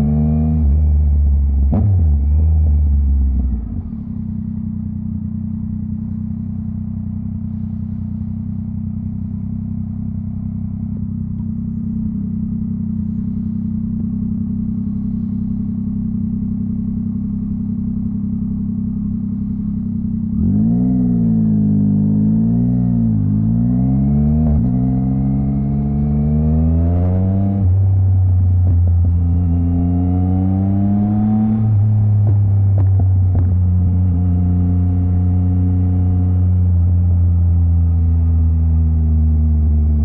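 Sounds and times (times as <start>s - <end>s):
motorcycle engine revving and idling: 0.0s - 40.0s.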